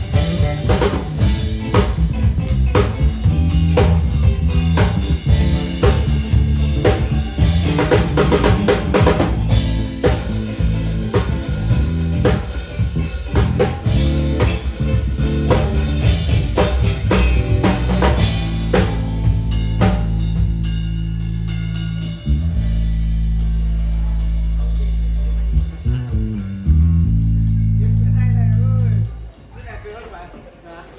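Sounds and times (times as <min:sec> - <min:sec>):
sustained low notes: 0:00.0 - 0:29.2
drum kit playing: 0:00.0 - 0:30.4.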